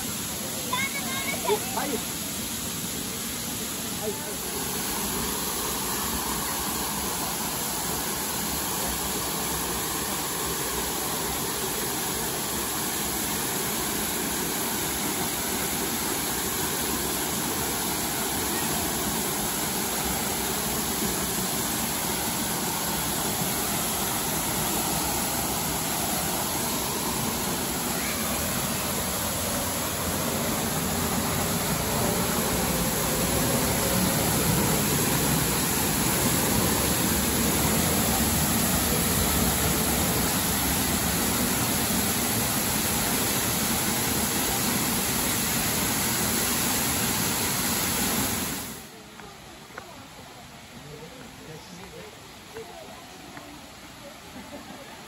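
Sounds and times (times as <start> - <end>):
waterfall rushing into pool: 0.0 - 55.0.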